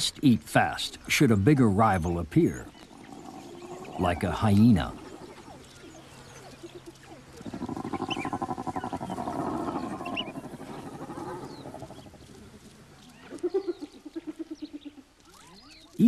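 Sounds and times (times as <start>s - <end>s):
pulsing chorus of animal calls: 2.7s - 15.8s.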